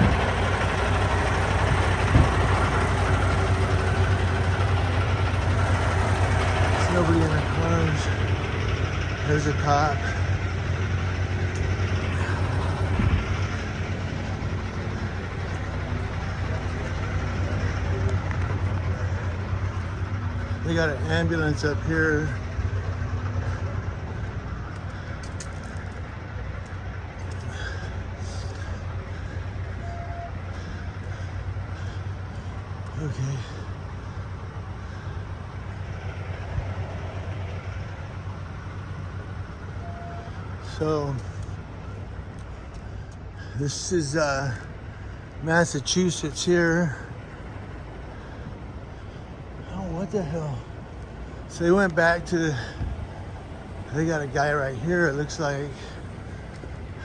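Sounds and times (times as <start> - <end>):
road noise rushing: 0.0 - 57.0
vehicle engine hum: 0.0 - 57.0.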